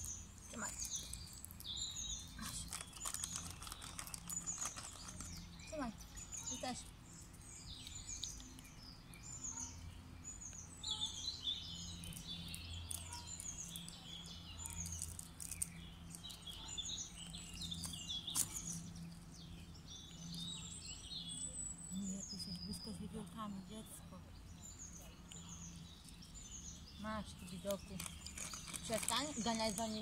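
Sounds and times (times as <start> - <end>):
songbirds chirping and singing: 0.0 - 30.0.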